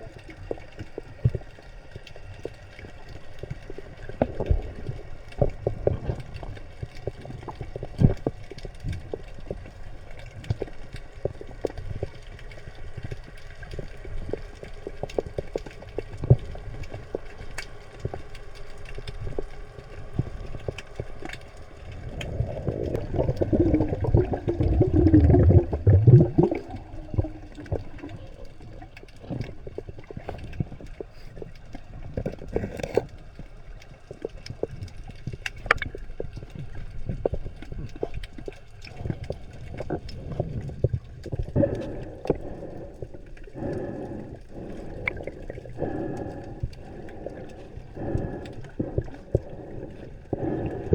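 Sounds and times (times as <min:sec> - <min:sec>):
low underwater rumble: 0:00.0 - 0:50.9
underwater clicks and crackles: 0:00.0 - 0:50.9
water bubbling and gurgling: 0:00.0 - 0:50.9.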